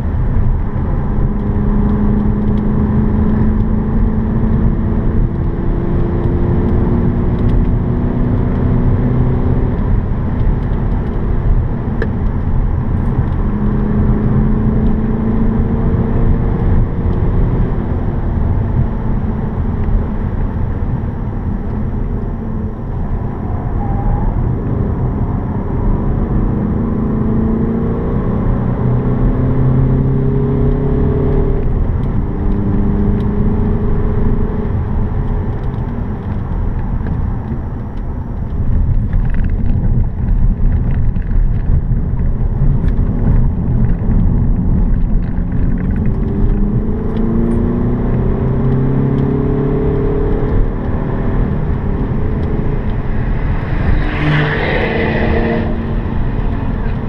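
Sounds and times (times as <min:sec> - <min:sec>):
car engine accelerating: 0:00.0 - 0:57.0
tyre and road noise: 0:00.0 - 0:57.0.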